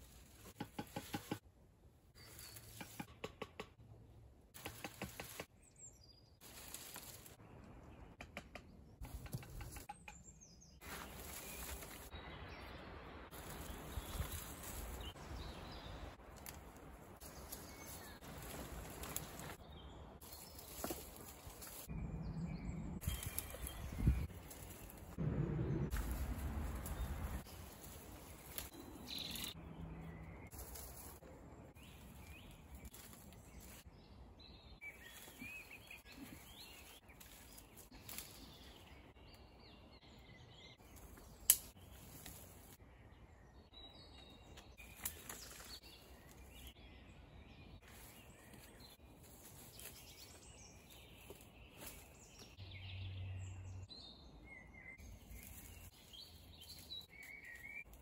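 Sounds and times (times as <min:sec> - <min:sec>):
faint birds chirping: 0:00.0 - 0:03.1, 0:03.8 - 0:58.0.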